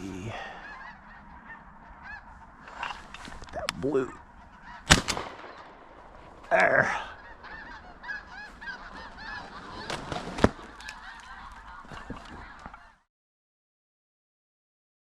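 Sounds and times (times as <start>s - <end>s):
geese honking: 0.0s - 5.3s, 6.0s - 13.0s.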